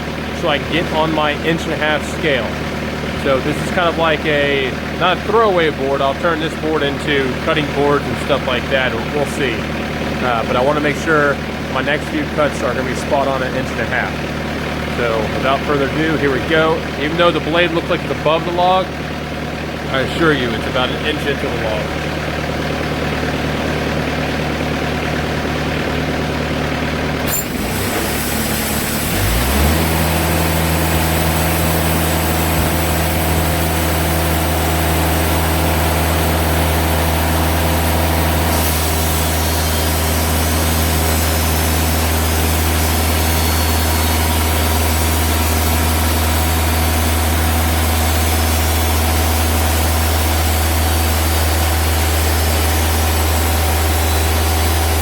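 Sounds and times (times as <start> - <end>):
band saw cutting log: 0.0 - 19.0, 19.7 - 24.6, 27.1 - 55.0
sawmill engine running: 0.0 - 55.0.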